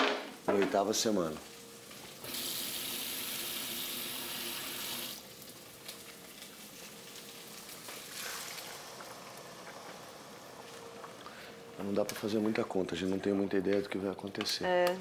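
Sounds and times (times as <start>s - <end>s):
stove hissing: 0.0s - 13.7s.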